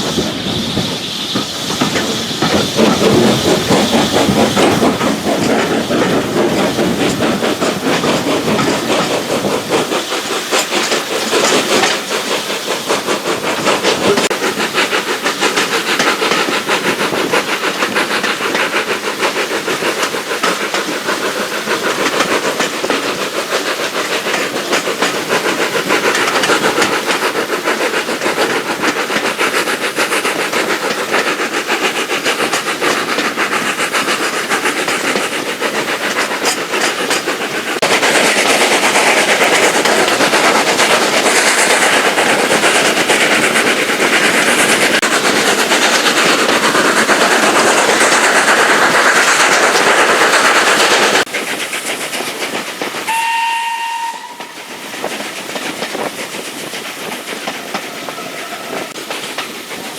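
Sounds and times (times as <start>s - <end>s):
rail noise: 0.0s - 59.9s
steam hissing: 0.0s - 59.9s
steam train running: 0.0s - 59.9s.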